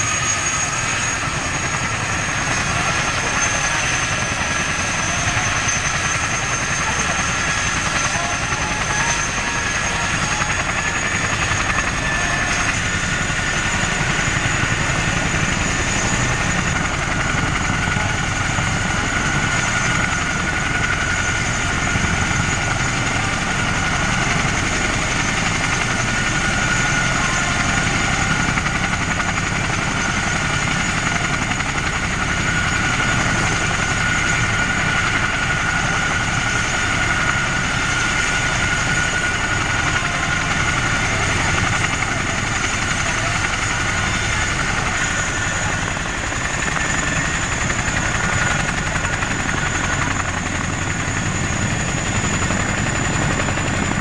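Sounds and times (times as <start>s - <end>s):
helicopter turbine whining: 0.0s - 54.0s.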